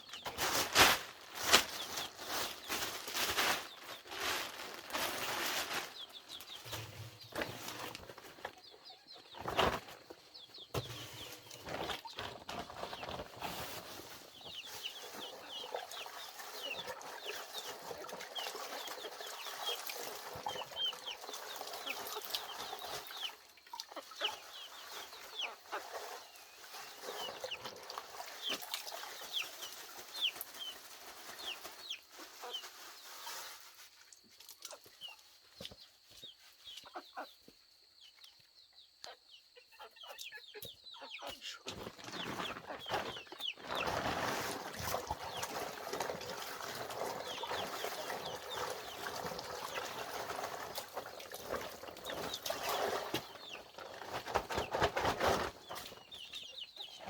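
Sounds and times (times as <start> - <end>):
chickens clucking and calling: 1.1 - 33.6, 34.6 - 57.0.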